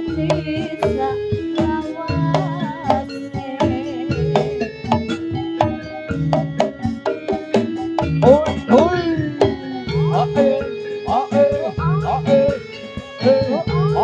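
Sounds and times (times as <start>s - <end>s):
hand drums: 0.0s - 14.0s
ringing gongs: 0.0s - 14.0s
wavering melody line: 0.0s - 14.0s.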